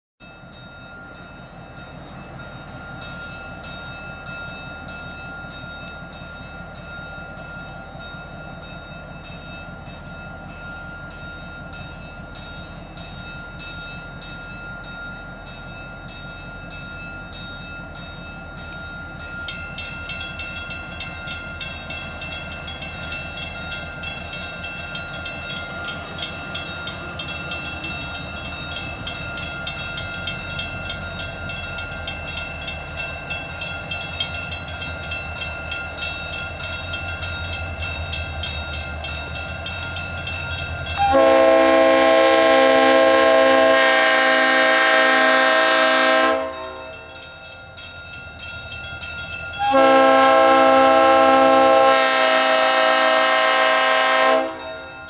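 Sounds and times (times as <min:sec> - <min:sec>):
crossing signal bell ringing: 0:00.2 - 0:55.0
diesel locomotive rumbling: 0:00.2 - 0:55.0.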